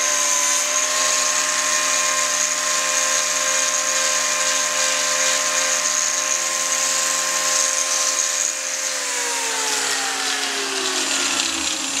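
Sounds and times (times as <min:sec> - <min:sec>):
electric grinder whining: 0:00.0 - 0:12.0.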